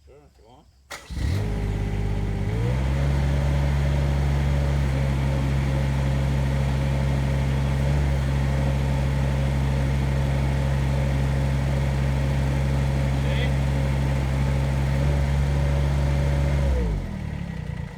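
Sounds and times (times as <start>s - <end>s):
diesel engine at high revs: 1.0s - 17.9s
hydraulic auger spinning: 1.1s - 17.9s.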